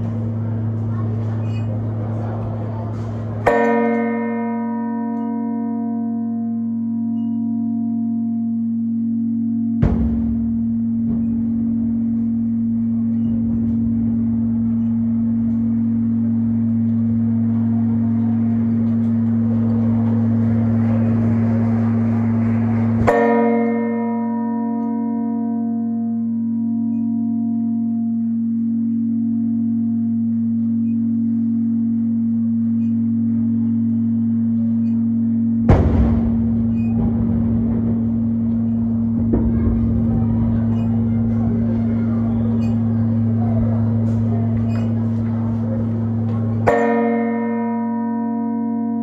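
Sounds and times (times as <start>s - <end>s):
deep steady hum: 0.0s - 48.3s
church bells pealing: 0.0s - 49.0s.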